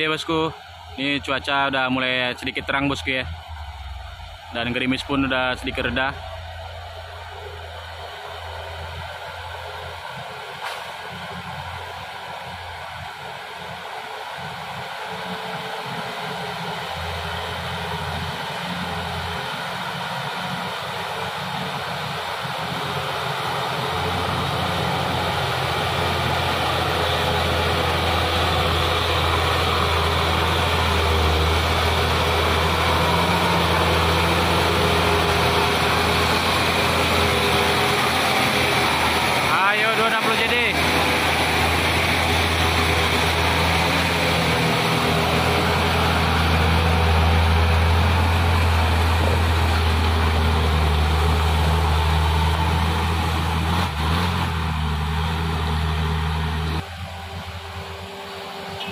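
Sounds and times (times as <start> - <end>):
diesel truck engine pulling uphill: 0.0 - 58.9.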